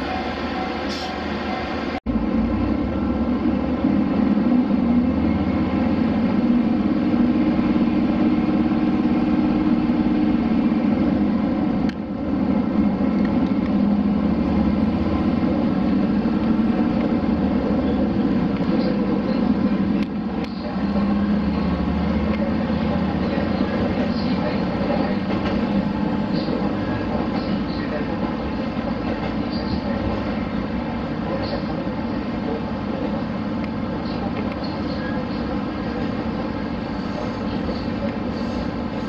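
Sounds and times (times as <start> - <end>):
diesel railcar engine droning: 0.0 - 39.0.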